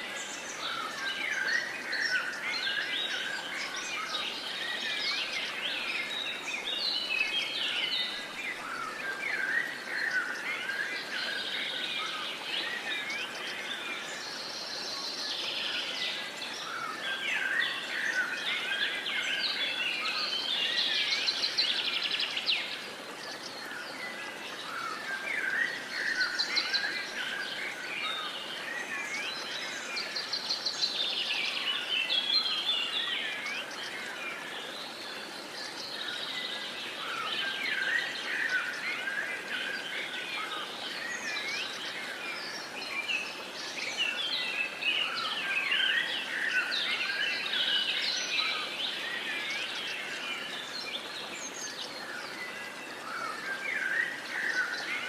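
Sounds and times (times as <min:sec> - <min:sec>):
chorus of songbirds singing: 0:00.0 - 0:55.0.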